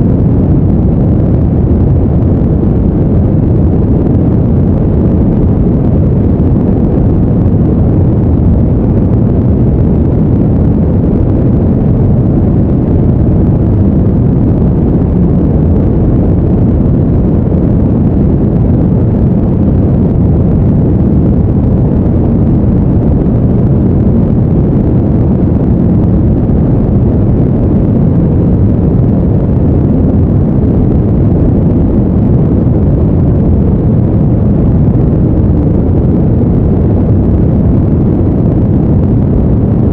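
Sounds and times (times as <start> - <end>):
loud deep even noise: 0.0 - 39.9.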